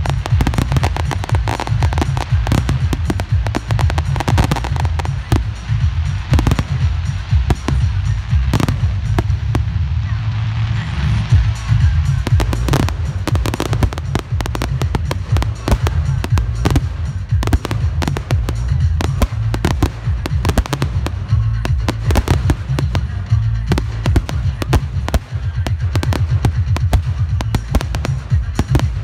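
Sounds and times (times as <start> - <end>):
fireworks bangs and crackles: 0.0 - 29.0
music: 0.0 - 29.0.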